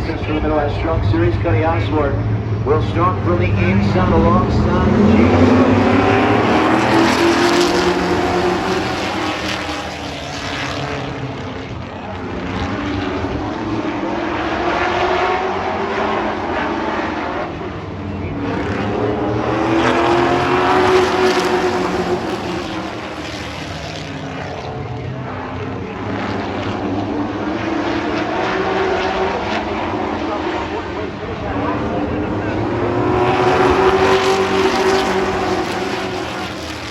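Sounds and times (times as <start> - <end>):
race truck engines passing: 0.0 - 36.9.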